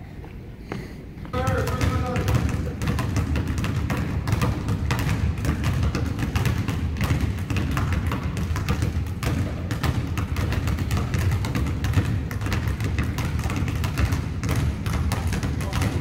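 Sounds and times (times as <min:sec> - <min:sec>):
basketballs bouncing on hardwood: 0:00.8 - 0:16.0.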